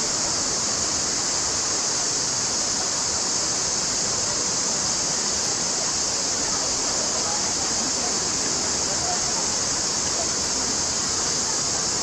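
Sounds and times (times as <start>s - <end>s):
high-pitched hiss: 0.0s - 12.0s
stream flowing over rocks: 0.0s - 12.0s.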